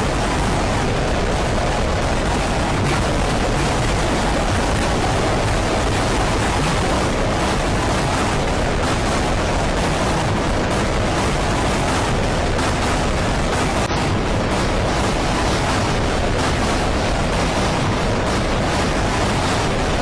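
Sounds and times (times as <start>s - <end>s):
harsh steady noise: 0.0s - 20.0s.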